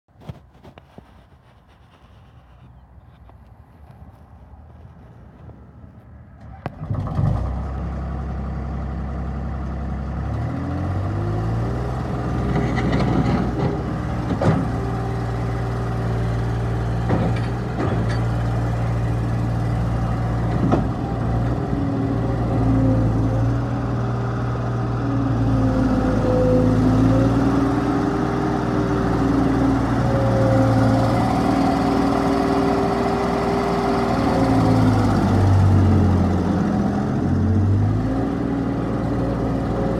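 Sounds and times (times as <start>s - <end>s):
diesel engine revving: 6.7s - 39.9s.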